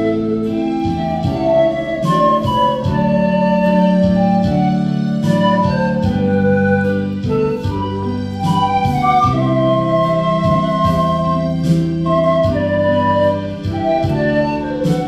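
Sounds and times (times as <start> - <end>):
keyboard backing track with beat: 0.0 - 15.0
pan flute melody: 0.0 - 15.0.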